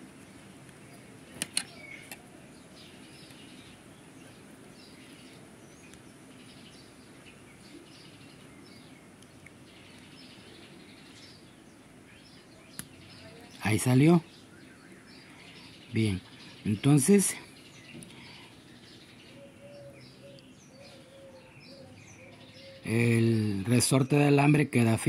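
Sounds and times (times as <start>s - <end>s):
faint birds chirping: 0.0s - 25.0s
low steady hiss: 0.0s - 25.0s.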